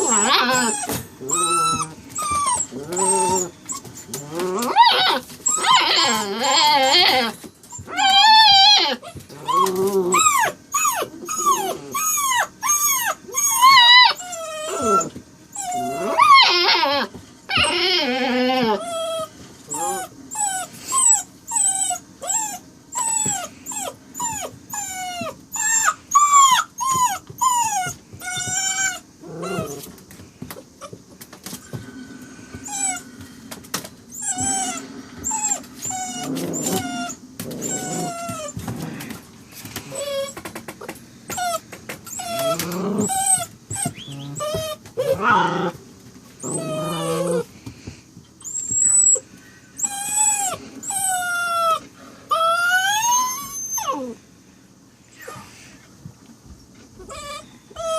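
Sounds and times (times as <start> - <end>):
puppy raspy cries: 0.0 - 29.9, 32.6 - 33.1, 34.1 - 39.1, 39.8 - 40.5, 41.3 - 45.8, 46.4 - 47.5, 48.4 - 54.2, 57.0 - 57.9
puppy whining and whimpering: 0.0 - 33.2, 34.0 - 54.3, 55.1 - 55.9, 56.7 - 57.9.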